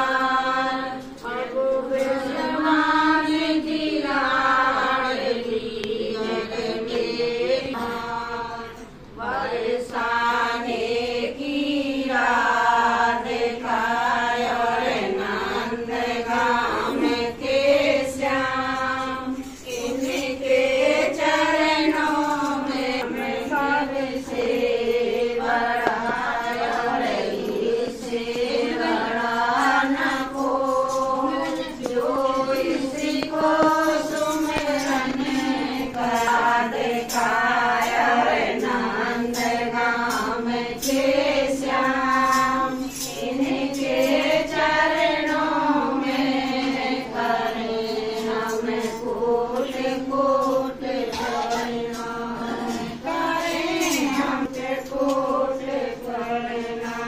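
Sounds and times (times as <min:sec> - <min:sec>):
percussion strokes: 0:00.0 - 0:57.0
women singing in unison: 0:00.0 - 0:57.0.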